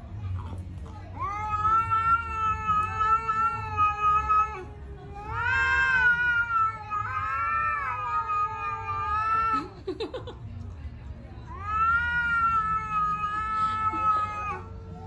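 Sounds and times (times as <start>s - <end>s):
cat yowling: 1.2s - 9.8s, 11.4s - 15.0s.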